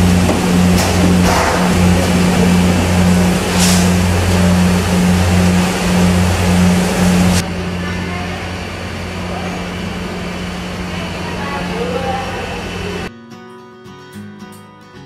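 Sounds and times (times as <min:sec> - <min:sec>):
pulsing machine drone: 0:00.0 - 0:13.1.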